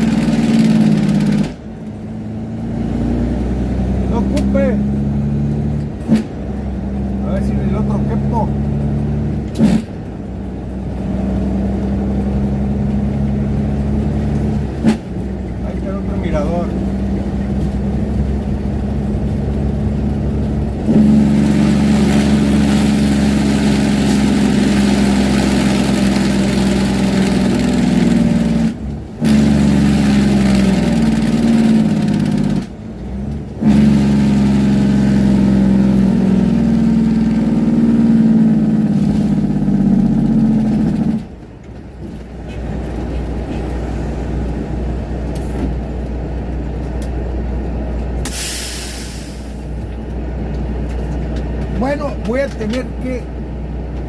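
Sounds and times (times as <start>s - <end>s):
truck diesel engine droning: 0.0s - 54.0s.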